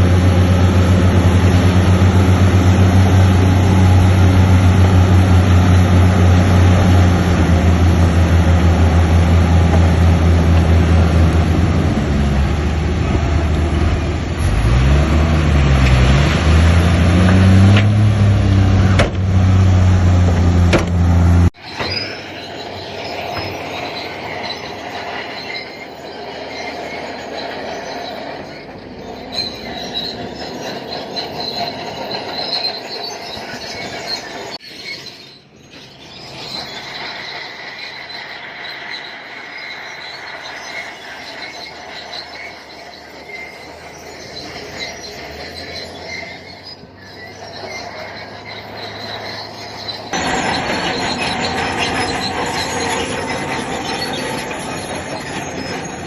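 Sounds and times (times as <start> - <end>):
bulldozer diesel engine running: 0.0 - 56.0
crawler tracks squealing: 0.0 - 56.0.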